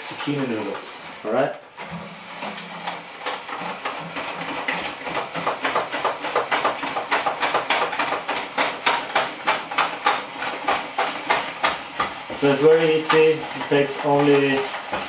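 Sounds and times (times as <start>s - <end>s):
spiralizer blade cutting vegetable: 0.0s - 15.0s.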